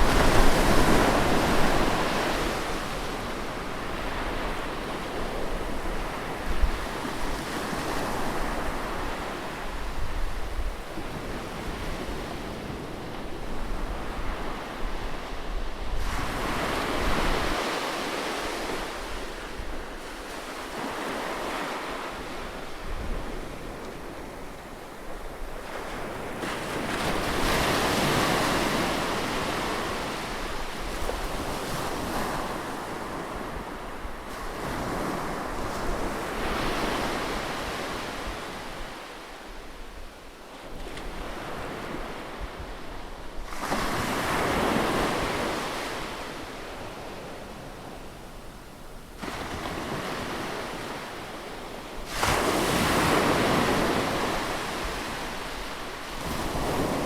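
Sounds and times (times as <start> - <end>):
waves breaking on beach: 0.0 - 39.8, 40.7 - 57.0.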